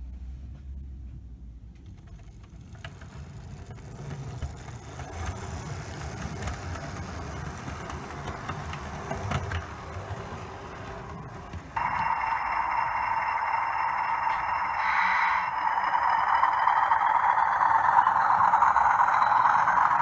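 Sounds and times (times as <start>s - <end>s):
wheels clicking over rail joints: 1.7s - 14.6s, 15.6s - 20.0s
model train rumbling: 1.7s - 20.0s.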